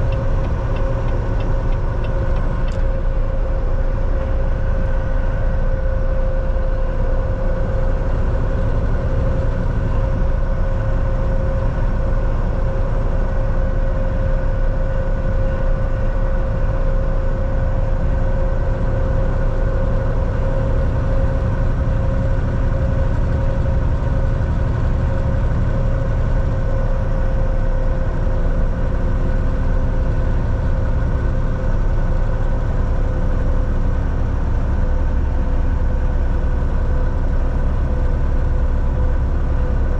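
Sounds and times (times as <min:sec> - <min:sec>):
constant hum: 0:00.0 - 0:39.9
road rumble: 0:00.0 - 0:39.9
truck engine drone: 0:00.0 - 0:39.9.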